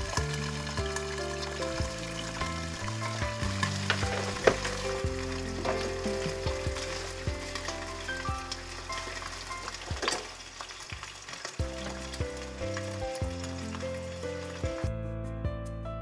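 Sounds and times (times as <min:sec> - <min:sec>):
eggs sizzling in oil: 0:00.0 - 0:14.9.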